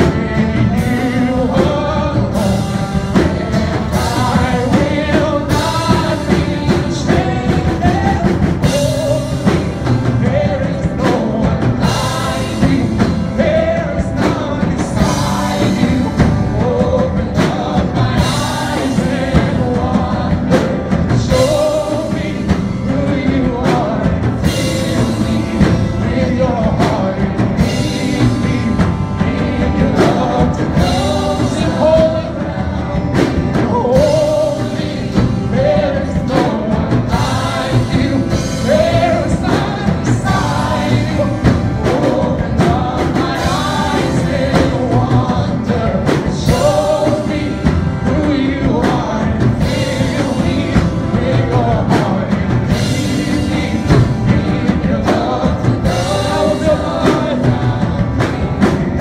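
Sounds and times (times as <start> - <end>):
acoustic guitar: 0.0 - 59.0
drum beats: 0.0 - 59.0
singers singing: 0.0 - 59.0.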